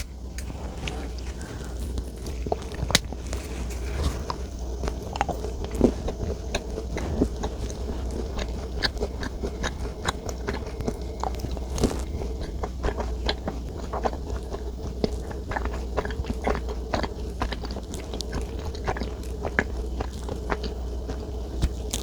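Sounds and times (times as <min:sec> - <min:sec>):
chewing and crunching: 0:00.0 - 0:22.0
low steady hum: 0:00.0 - 0:22.0.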